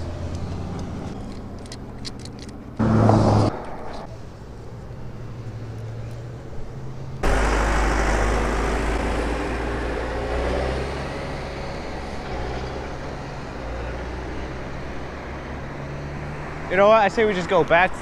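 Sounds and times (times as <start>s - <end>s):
traffic noise: 0.0s - 18.0s
diesel engine driving past: 2.6s - 18.0s.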